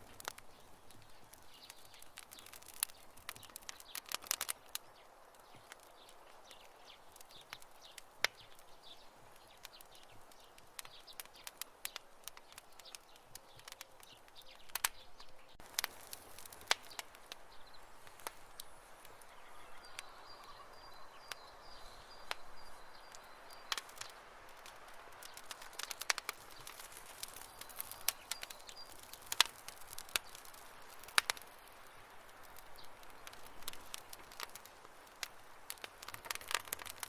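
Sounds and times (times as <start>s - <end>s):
campfire wood crackling and popping: 0.0s - 37.0s
soft fire hiss: 0.0s - 37.0s.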